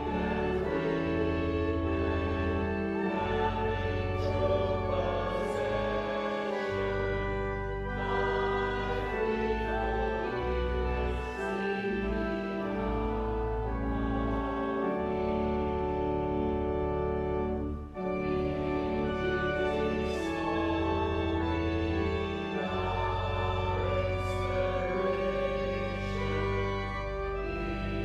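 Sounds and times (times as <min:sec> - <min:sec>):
choir singing a hymn: 0:00.0 - 0:28.0
instrumental accompaniment: 0:00.0 - 0:28.0.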